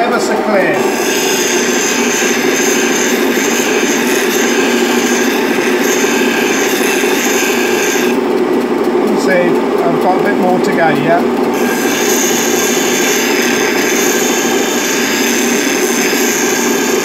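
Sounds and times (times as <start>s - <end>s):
grinding hiss: 0.0s - 8.3s, 10.3s - 17.0s
grinder motor hum: 0.0s - 17.0s.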